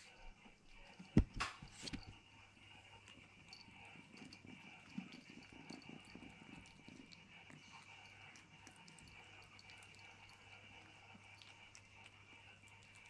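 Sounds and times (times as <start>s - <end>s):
kitten chewing and licking: 0.0s - 13.0s
low steady hum: 0.0s - 13.0s.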